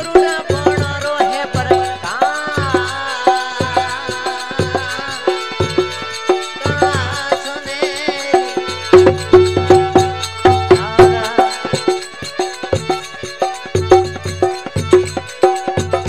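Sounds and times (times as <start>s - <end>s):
harmonium melody: 0.0s - 16.0s
quick drum beat: 0.0s - 16.0s.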